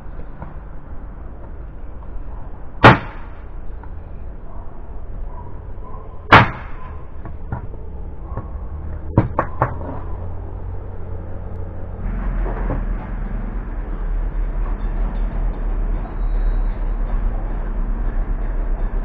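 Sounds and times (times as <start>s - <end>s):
low rumbling: 0.0s - 19.0s.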